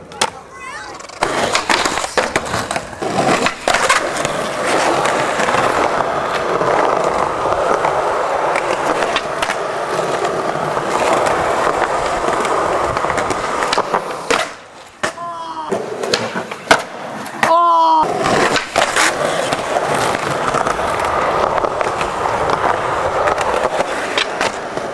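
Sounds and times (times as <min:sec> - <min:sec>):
skateboard clacks popping and landing: 0:00.0 - 0:24.9
skateboard wheels rolling on concrete: 0:00.0 - 0:24.9.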